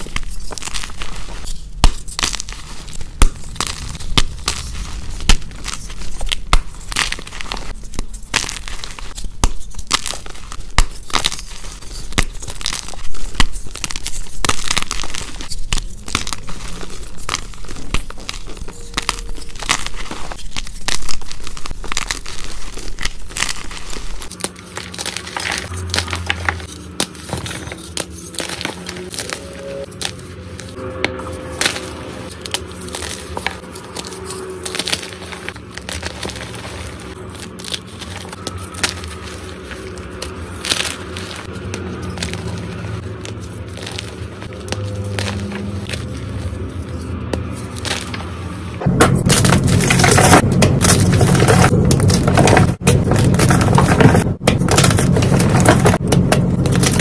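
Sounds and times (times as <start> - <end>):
chalk powder squeaking: 0.0 - 48.8
chalk crunching and crackling in hands: 0.0 - 56.0.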